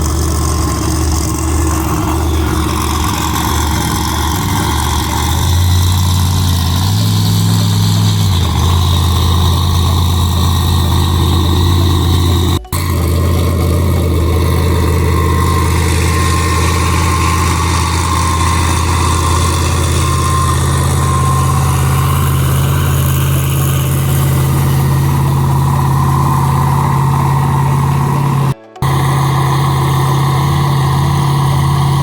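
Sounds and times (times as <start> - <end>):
large engine idling: 0.0 - 32.0.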